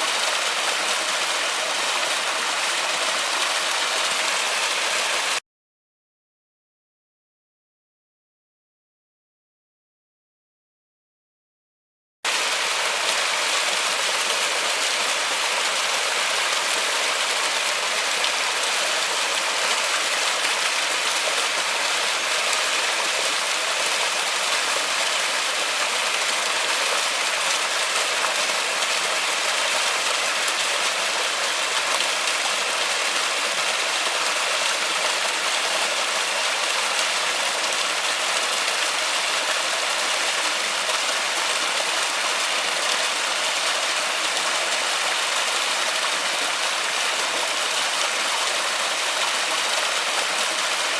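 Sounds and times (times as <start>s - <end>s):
heavy rain in a forest: 0.0s - 5.4s, 12.3s - 50.9s.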